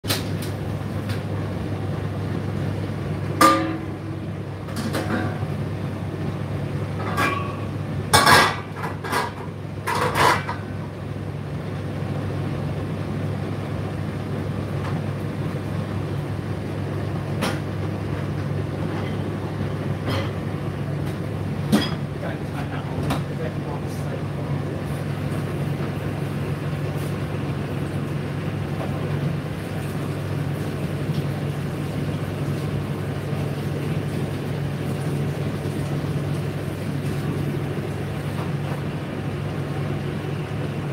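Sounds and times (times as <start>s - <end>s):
tumble dryer hum: 0.1s - 40.9s.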